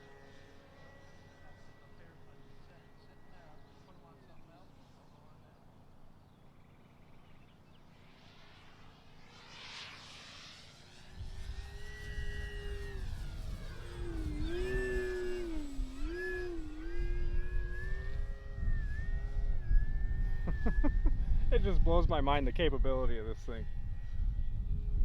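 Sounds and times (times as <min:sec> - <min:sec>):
model plane motor whining: 0:00.0 - 0:25.0.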